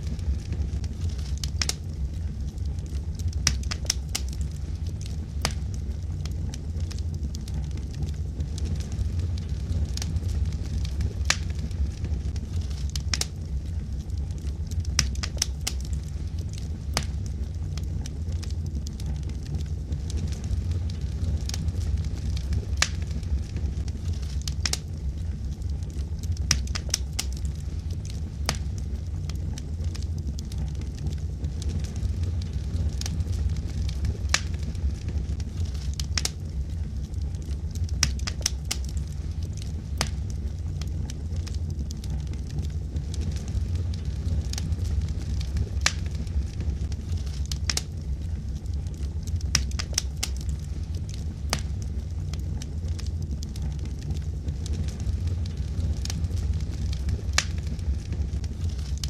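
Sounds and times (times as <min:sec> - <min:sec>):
logs crackling and popping: 0:00.0 - 0:59.0
wood fire rumbling: 0:00.0 - 0:59.0.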